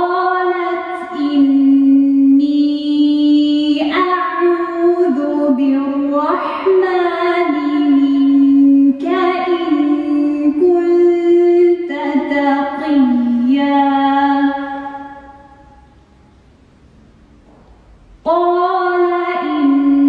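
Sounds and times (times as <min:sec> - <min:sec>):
woman chanting: 0:00.0 - 0:15.6, 0:18.2 - 0:20.0.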